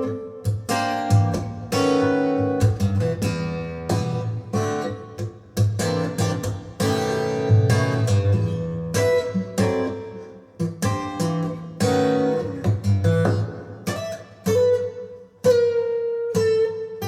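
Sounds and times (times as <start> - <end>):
acoustic guitar chords over loudspeakers: 0.0 - 17.0.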